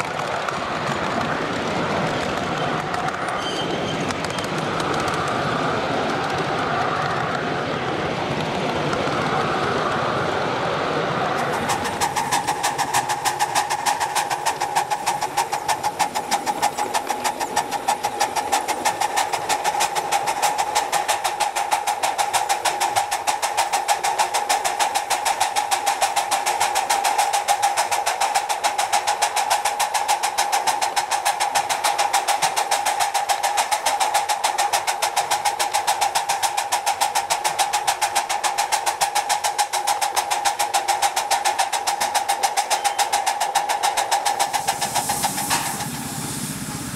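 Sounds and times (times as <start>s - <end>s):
steam locomotive chuffing: 0.0s - 46.9s.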